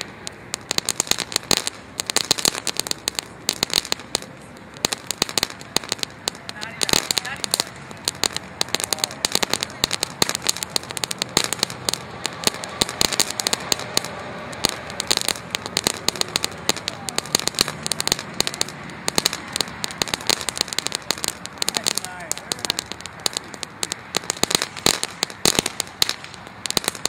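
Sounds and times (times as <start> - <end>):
crackling pops: 0.0 - 27.0
firework fountain hissing: 0.0 - 27.0.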